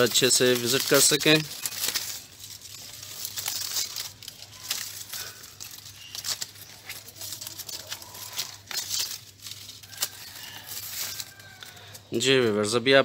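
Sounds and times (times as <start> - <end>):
dry leaves crackling and rustling: 0.0 - 12.8.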